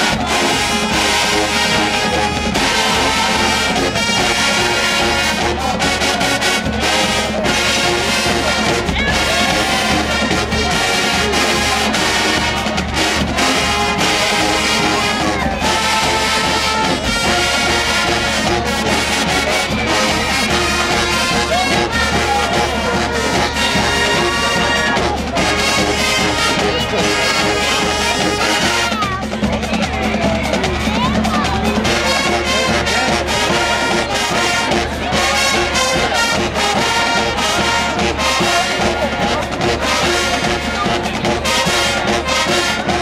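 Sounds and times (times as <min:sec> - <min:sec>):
brass-heavy marching band: 0:00.0 - 0:43.0
drumline beat: 0:00.0 - 0:43.0.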